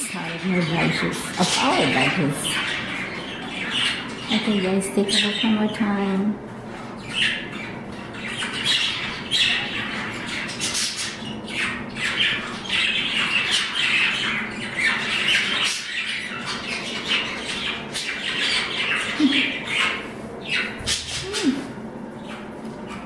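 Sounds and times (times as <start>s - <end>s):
budgerigars chattering: 0.0s - 6.1s, 6.7s - 21.6s.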